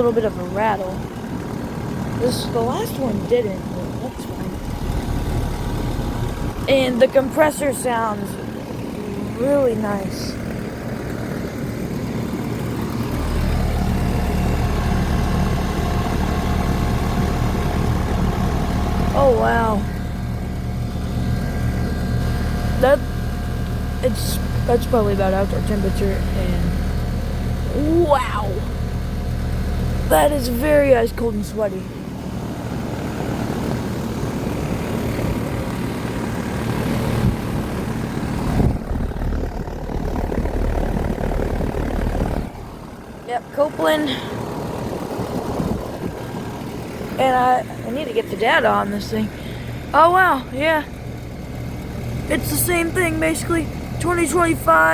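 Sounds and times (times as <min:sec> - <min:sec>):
air conditioner compressor humming: 0:00.0 - 0:54.9
condenser fan: 0:00.0 - 0:54.9.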